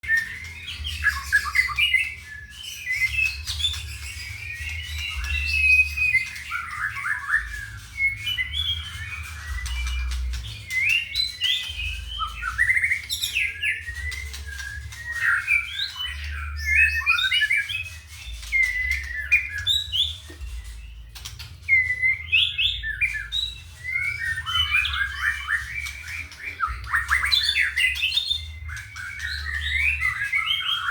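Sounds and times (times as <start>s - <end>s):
bird singing whistled song: 0.0s - 30.9s.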